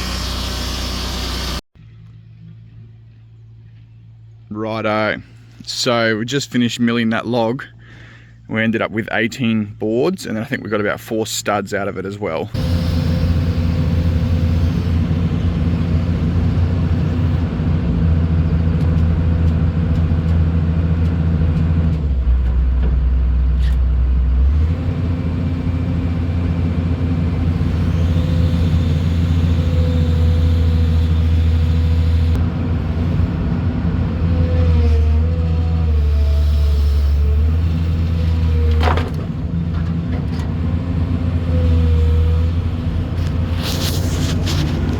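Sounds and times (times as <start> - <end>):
engine running: 0.0 - 4.4, 12.4 - 44.9.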